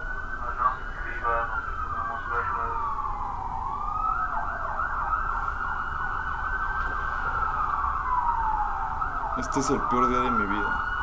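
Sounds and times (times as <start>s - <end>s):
police siren wailing: 0.0s - 11.0s
warbling siren sweep: 0.0s - 11.0s.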